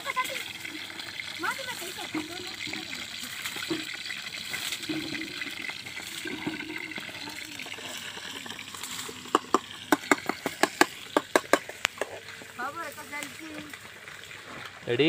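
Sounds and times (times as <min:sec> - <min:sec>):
water lapping at lake edge: 0:00.0 - 0:15.0.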